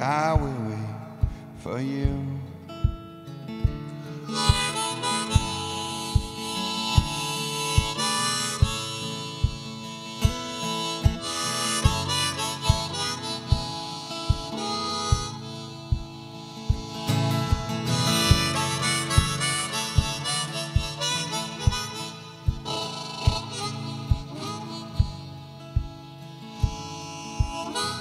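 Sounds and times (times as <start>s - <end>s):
low beat thump: 0.0s - 3.9s, 4.5s - 6.4s, 7.8s - 8.0s, 9.4s - 11.2s, 11.8s - 26.0s, 26.6s - 27.6s
strummed acoustic guitar: 0.0s - 28.0s
harmonica solo: 2.7s - 28.0s.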